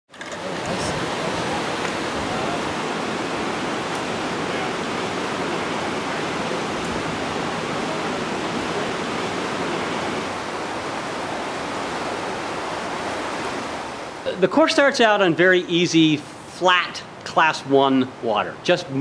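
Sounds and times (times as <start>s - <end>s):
whitewater rapids rushing: 0.2s - 16.9s.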